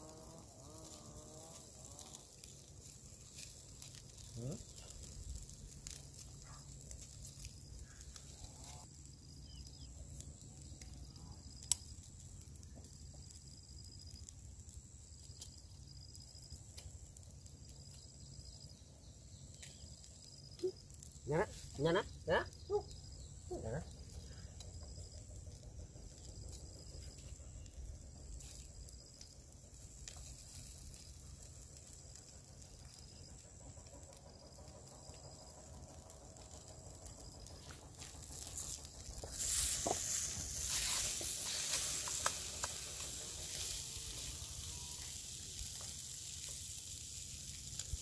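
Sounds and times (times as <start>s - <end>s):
insects trilling: 0.0s - 48.0s
wood fire crackling: 0.0s - 48.0s.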